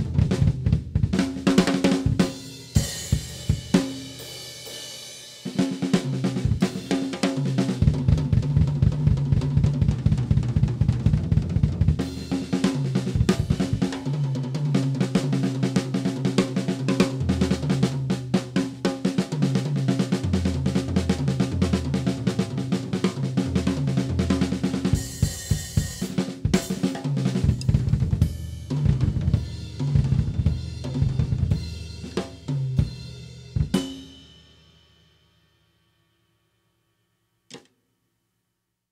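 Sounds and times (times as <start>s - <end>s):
drum kit played fast: 0.0s - 35.1s.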